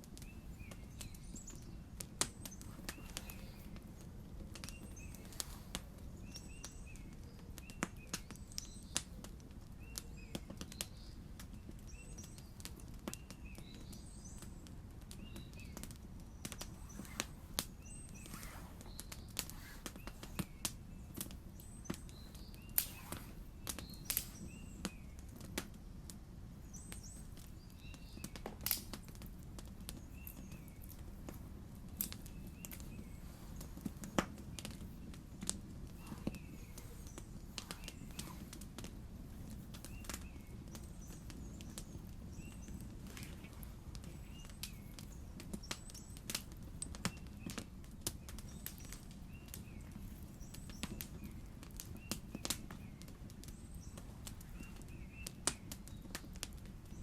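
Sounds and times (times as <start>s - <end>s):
campfire crackling and popping: 0.0s - 57.0s
small birds chirping: 0.0s - 57.0s.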